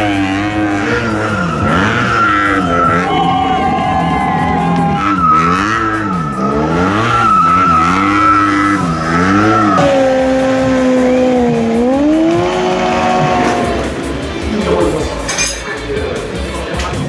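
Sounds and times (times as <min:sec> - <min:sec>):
motorcycle engine revving: 0:00.0 - 0:15.3
rear tyre squealing: 0:00.0 - 0:15.3.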